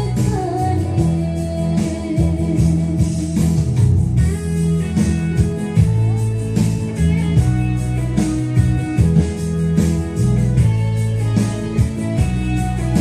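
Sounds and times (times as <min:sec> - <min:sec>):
instrumental guitar music: 0:00.0 - 0:13.0.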